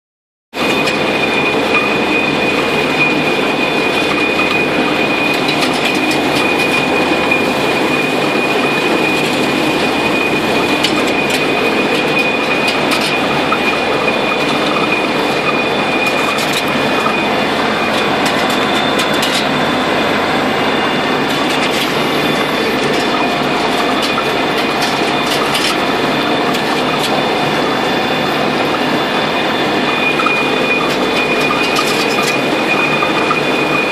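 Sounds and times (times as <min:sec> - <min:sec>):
harvester mechanical rattle: 0:00.6 - 0:33.9
high machine whine: 0:00.6 - 0:33.9.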